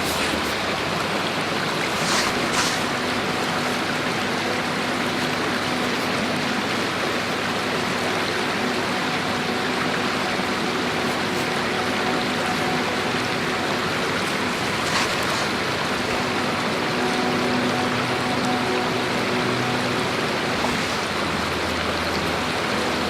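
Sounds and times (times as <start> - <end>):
river water rushing over stones: 0.0 - 23.0.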